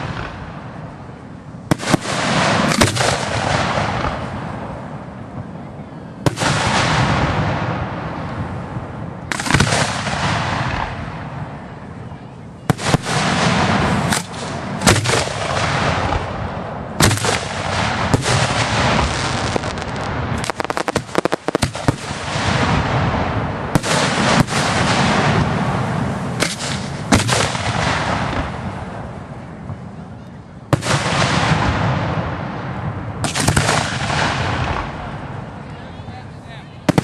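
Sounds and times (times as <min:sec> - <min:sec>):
firework shells bursting: 0:00.0 - 0:05.4, 0:06.2 - 0:11.7, 0:12.7 - 0:30.0, 0:30.7 - 0:35.6
firework crackles: 0:00.0 - 0:37.0.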